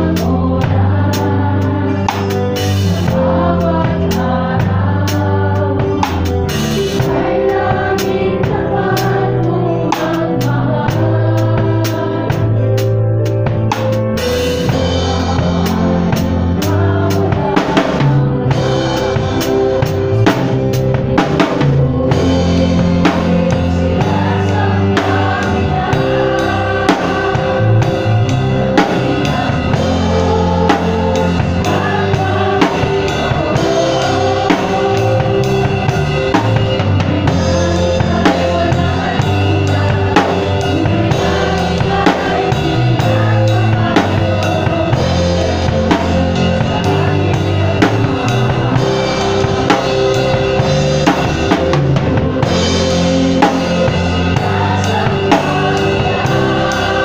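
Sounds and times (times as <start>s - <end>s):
drum kit kick and snare: 0.0s - 57.0s
live band playing: 0.0s - 57.0s.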